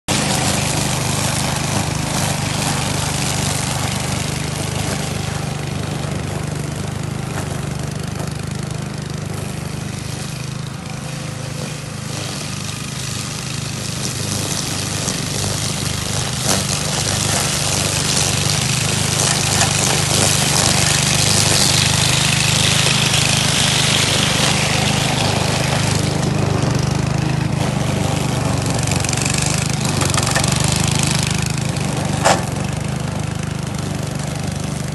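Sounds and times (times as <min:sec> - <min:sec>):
string trimmer engine running: 0:00.1 - 0:34.9.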